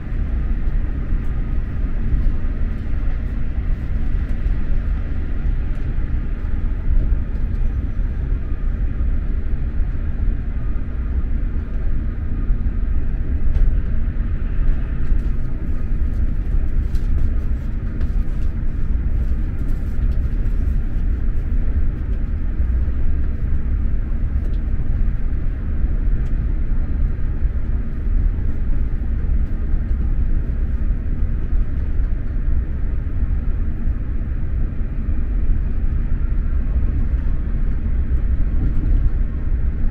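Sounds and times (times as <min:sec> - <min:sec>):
train rumbling at speed: 0:00.0 - 0:39.9.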